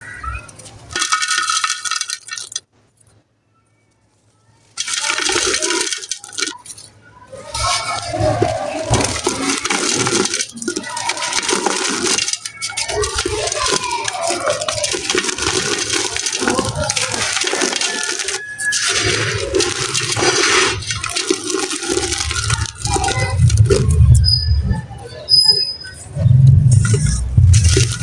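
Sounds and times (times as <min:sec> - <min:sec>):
dry mud crushed and crunching: 0:04.7 - 0:28.0.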